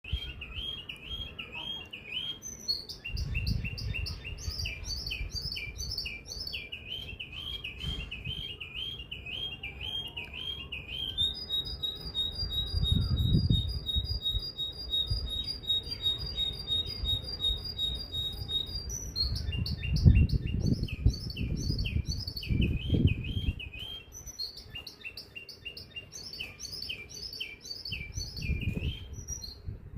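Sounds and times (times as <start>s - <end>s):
songbird chirping: 0.0s - 29.8s.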